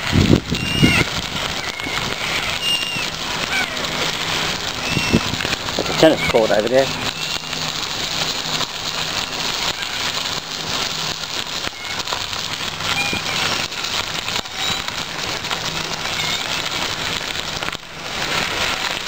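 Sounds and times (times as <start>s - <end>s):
bicycle tyres on gravel: 0.0s - 19.0s
wind on microphone: 0.0s - 19.0s.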